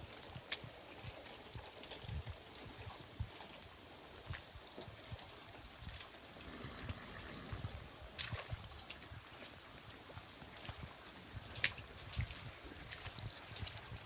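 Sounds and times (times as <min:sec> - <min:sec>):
water streaming and trickling: 0:00.0 - 0:14.0.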